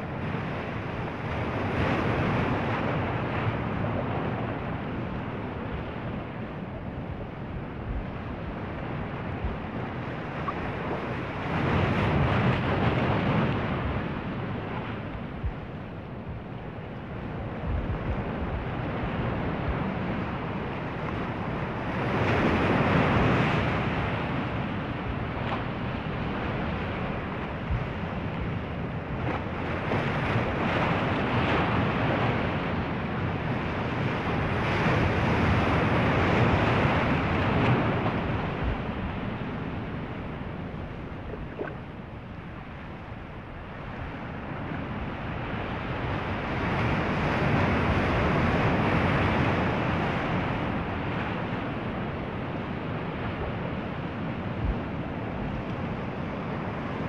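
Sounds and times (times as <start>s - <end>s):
waves breaking and washing ashore: 0.0s - 57.0s.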